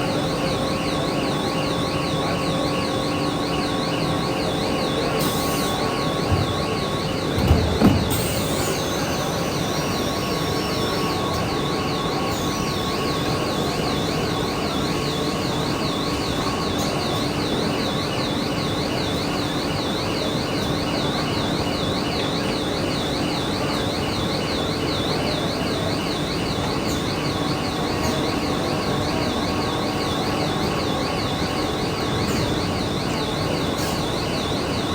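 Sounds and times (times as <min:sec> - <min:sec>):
warbling electronic warning tone: 0:00.0 - 0:34.9.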